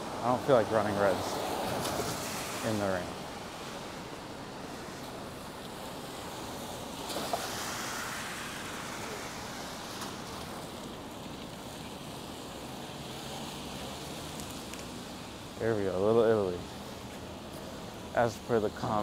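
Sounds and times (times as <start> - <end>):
tyres hissing on wet street: 0.0 - 19.0.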